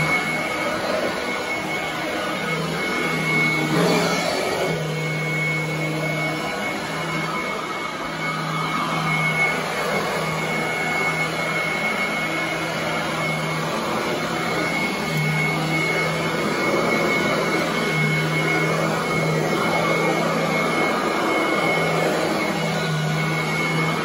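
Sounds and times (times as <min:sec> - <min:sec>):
vacuum cleaner running on carpet: 0:00.0 - 0:24.0.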